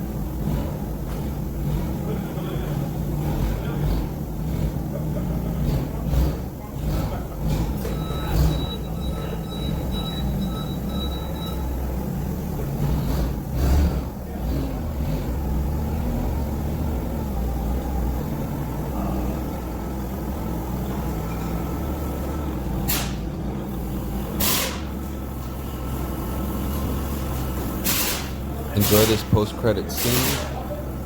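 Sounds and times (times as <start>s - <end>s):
heavy vehicle engine rumbling: 0.0s - 31.0s.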